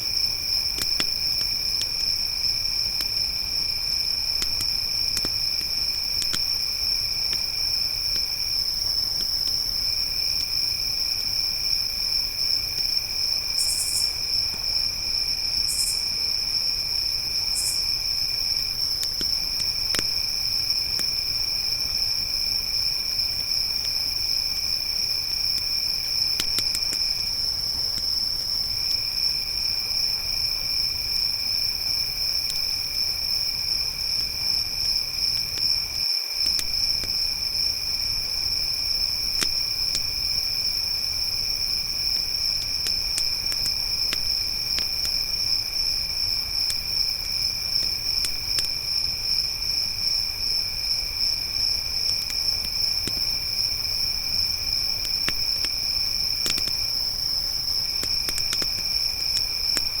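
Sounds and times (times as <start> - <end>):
campfire crackling and popping: 0.0 - 15.6, 16.2 - 60.0
crickets trilling: 0.0 - 60.0.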